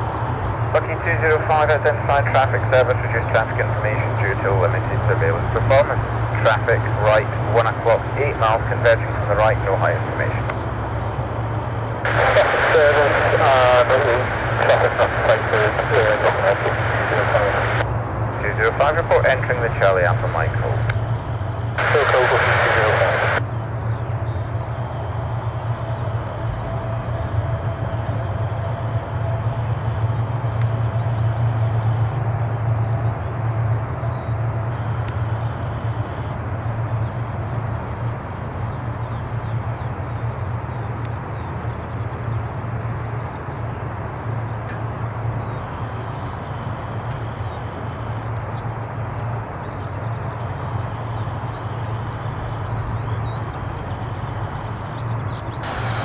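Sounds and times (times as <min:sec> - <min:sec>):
aircraft engines droning: 0:00.0 - 0:56.0.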